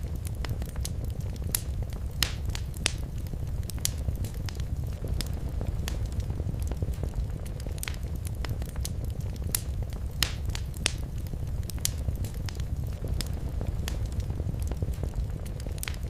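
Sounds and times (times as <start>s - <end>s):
fire crackling and popping: 0.0s - 16.0s
loud fire snaps: 0.0s - 16.0s
low rumble of fire: 0.0s - 16.0s.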